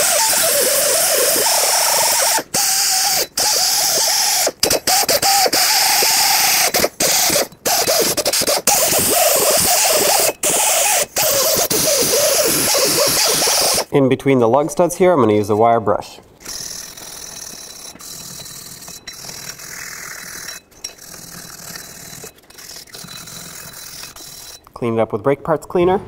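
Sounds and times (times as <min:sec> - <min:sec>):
die grinder grinding metal: 0:00.0 - 0:13.9, 0:16.4 - 0:24.7.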